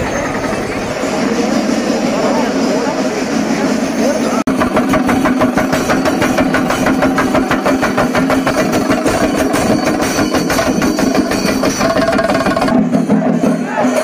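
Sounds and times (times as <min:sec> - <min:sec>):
drums beaten with sticks: 0:00.0 - 0:14.0.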